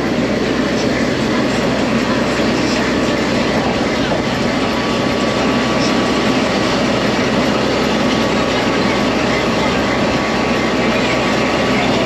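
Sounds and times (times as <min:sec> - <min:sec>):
tram motor and wheels running: 0:00.0 - 0:12.0.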